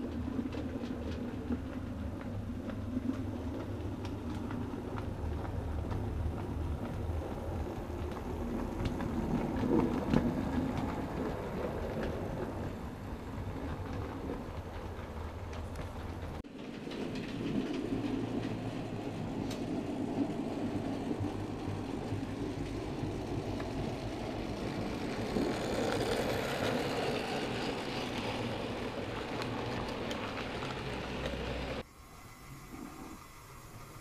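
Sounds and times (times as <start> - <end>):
model train rumbling: 0.0 - 31.9.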